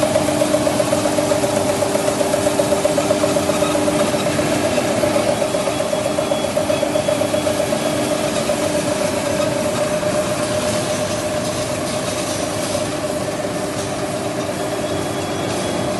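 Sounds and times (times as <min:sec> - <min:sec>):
machine drone with whine: 0:00.0 - 0:15.9.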